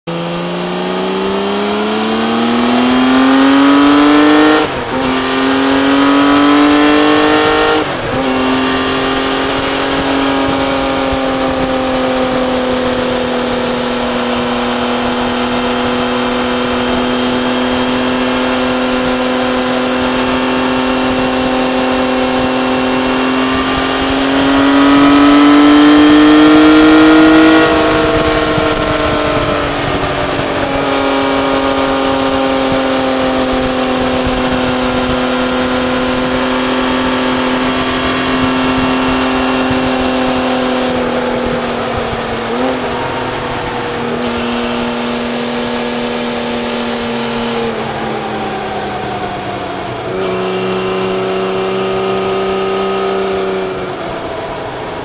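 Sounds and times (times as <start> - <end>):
gear changes: 0.1 - 55.0
motorcycle engine revving: 0.1 - 55.0.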